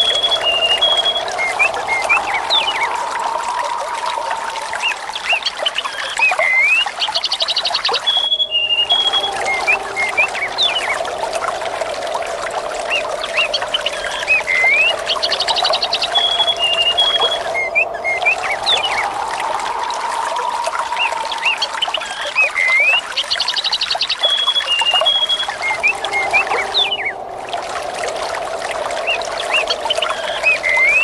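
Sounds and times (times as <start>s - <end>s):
birds chirping and trilling: 0.0s - 11.7s, 12.3s - 27.4s, 29.0s - 31.0s
water trickling: 0.0s - 31.0s.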